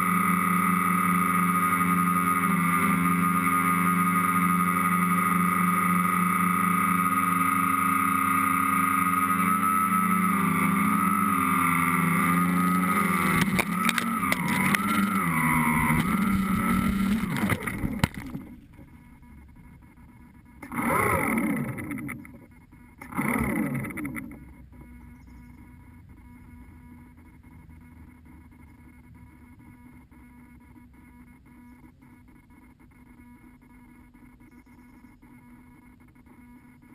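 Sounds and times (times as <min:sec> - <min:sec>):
drone motors and propellers droning: 0:00.0 - 0:36.9.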